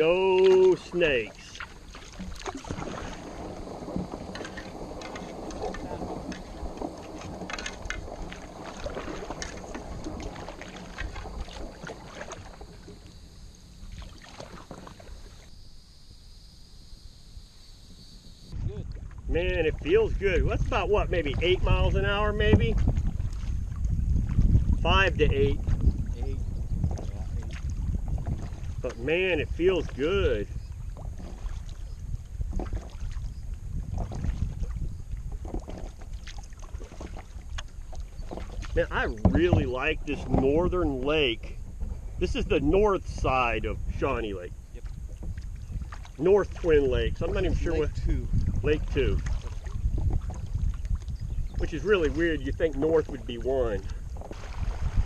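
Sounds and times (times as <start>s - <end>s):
water lapping at hull: 0.0s - 15.7s, 17.8s - 55.0s
paddle splashing water: 0.0s - 15.8s, 17.7s - 55.0s
wind rumble on microphone: 0.0s - 15.8s, 17.1s - 55.0s.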